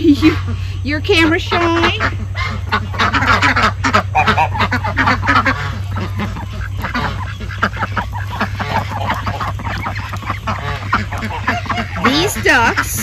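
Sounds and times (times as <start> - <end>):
ducks quacking: 0.0 - 13.0
geese honking: 0.0 - 13.0.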